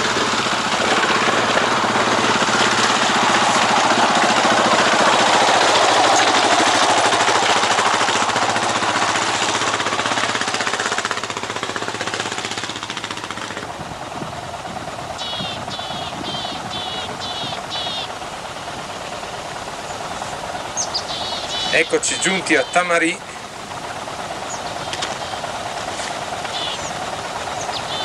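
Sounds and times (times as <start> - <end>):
motorcycle engine pulling hard: 0.0 - 28.0.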